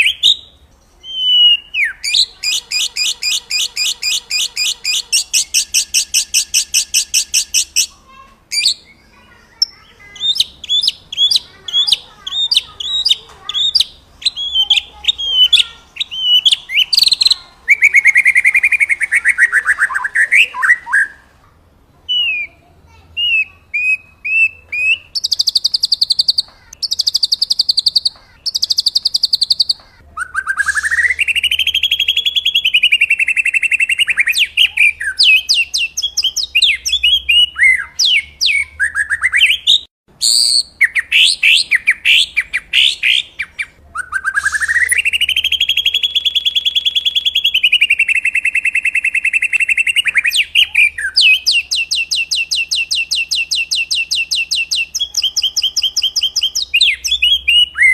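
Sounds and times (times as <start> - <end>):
songbird whistling and chirping: 0.0 - 21.3, 22.1 - 57.9.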